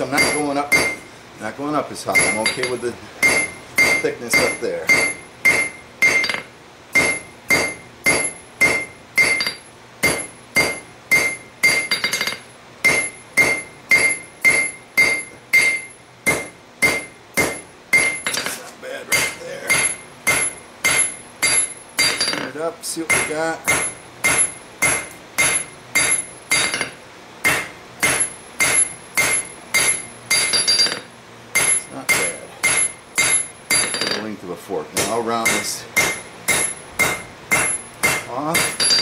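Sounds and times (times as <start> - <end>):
hammer blows ringing on anvil: 0.0 - 1.1, 2.1 - 34.3, 35.0 - 39.0.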